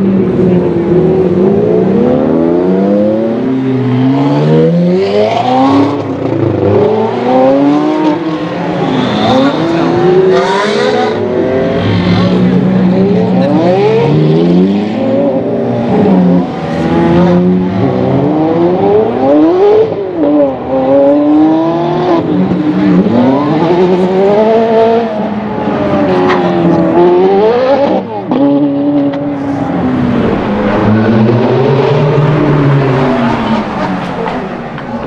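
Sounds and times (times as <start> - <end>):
sports car engines revving: 0.0 - 35.0.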